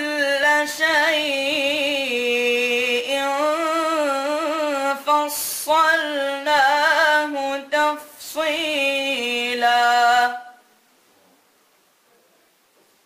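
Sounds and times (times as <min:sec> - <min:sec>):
boy reciting in melodic style: 0:00.0 - 0:10.7.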